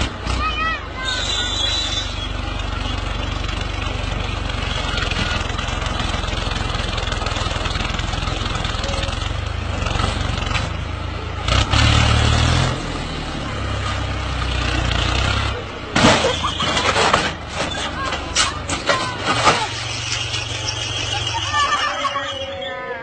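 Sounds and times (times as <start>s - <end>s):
tractor engine revving: 0.0s - 22.4s.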